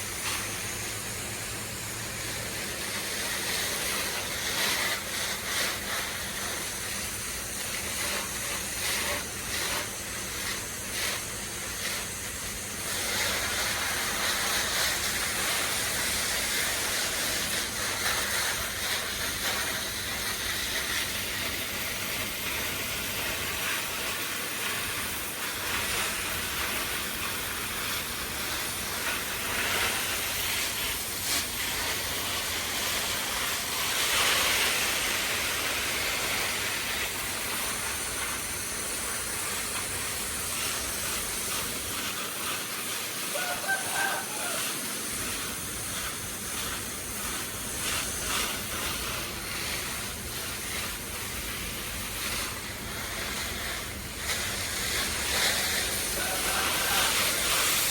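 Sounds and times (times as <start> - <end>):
steady hissing noise: 0.0 - 57.9.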